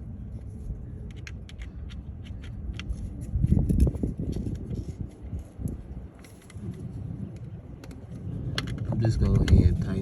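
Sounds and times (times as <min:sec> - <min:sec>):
handling engine parts clicks: 0:01.0 - 0:09.6.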